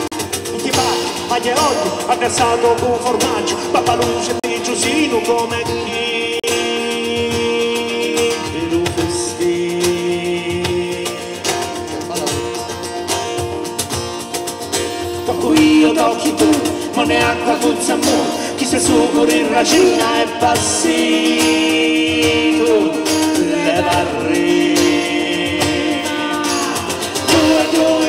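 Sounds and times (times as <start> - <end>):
acoustic guitars: 0.0 - 28.0
cajon played by hand: 0.0 - 28.0.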